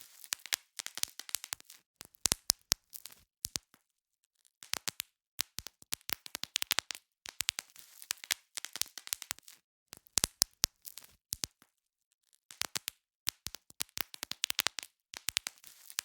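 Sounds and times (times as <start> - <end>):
bubble wrap popping: 0.0 - 3.8, 4.6 - 11.7, 12.4 - 16.0.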